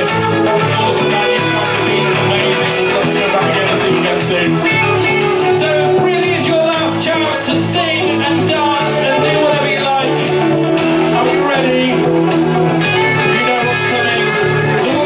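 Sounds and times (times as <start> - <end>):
bass guitar: 0.0 - 15.0
drums: 0.0 - 15.0
electric guitar: 0.0 - 15.0
person singing: 0.0 - 15.0.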